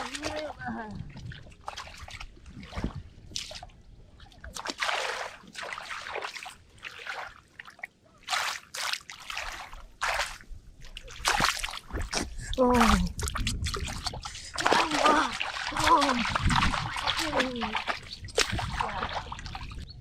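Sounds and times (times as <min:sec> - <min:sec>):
splashing in muddy water: 0:00.0 - 0:20.0
water dripping: 0:00.0 - 0:20.0.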